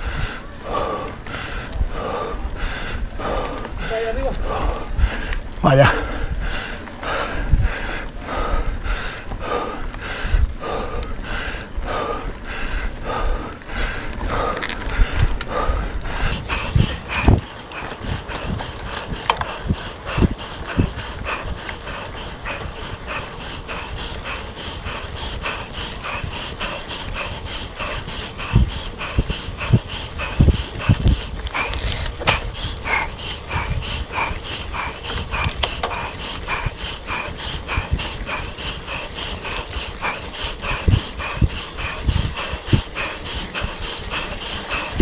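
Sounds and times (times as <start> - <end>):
person panting hard: 0.0 - 45.0
wind and tyre rumble: 0.0 - 45.0.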